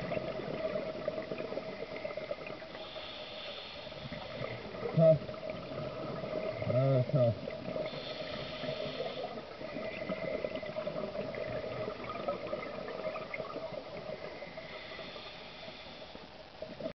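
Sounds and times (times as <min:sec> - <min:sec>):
faint steady hum: 0:00.0 - 0:16.9
underwater crackling and bubbling: 0:00.0 - 0:17.0.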